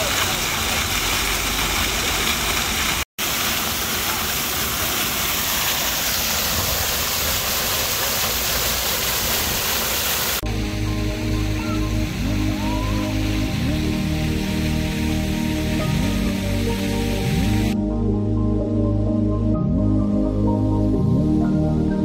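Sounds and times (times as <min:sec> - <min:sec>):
fountain water splashing: 0:00.0 - 0:17.8.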